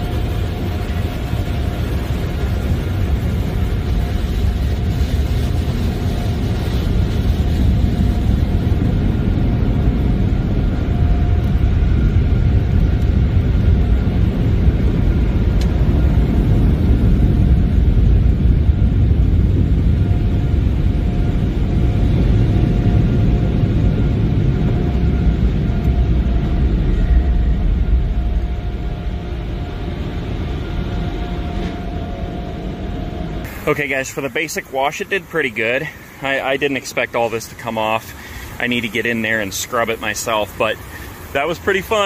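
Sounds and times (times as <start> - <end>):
car wash dryer blowers roaring: 0.0 - 42.0.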